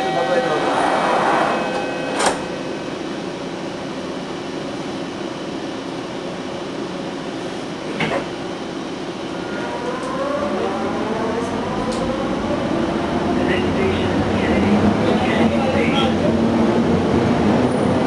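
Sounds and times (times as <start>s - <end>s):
ventilation hum: 0.0s - 16.8s.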